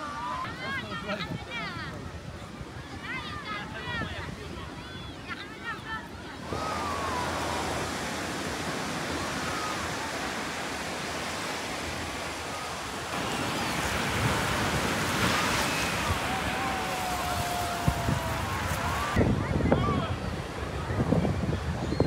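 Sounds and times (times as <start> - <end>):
waves washing on a sandy beach: 0.0 - 21.9.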